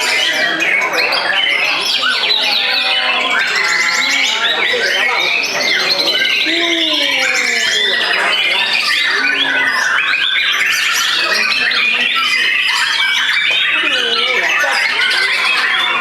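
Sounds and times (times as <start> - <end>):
birds singing whistles and trills: 0.0 - 16.0.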